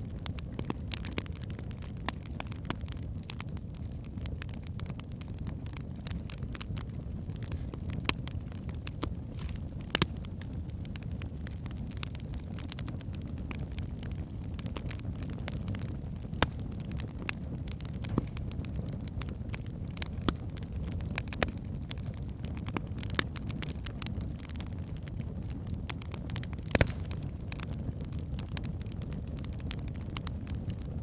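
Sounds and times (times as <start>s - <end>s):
fire crackling in a fireplace: 0.0s - 31.0s.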